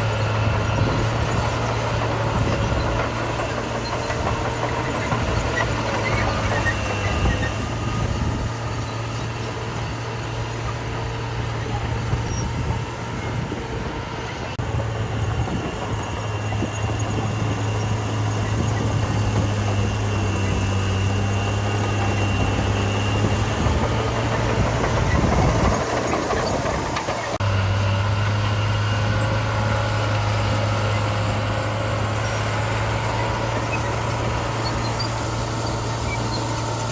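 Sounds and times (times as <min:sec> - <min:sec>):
diesel construction machinery running: 0:00.0 - 0:36.9.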